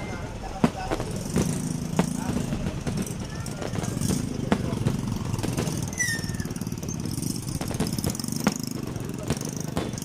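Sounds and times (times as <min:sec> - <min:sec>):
vehicle engine running: 0:00.8 - 0:10.0.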